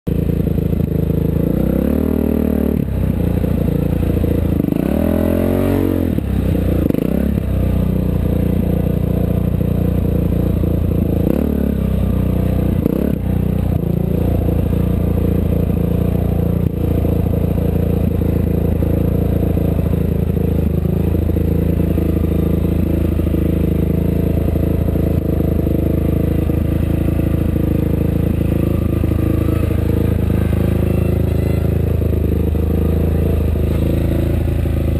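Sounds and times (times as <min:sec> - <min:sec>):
race vehicle engine revving: 0:00.8 - 0:07.9, 0:10.4 - 0:34.9.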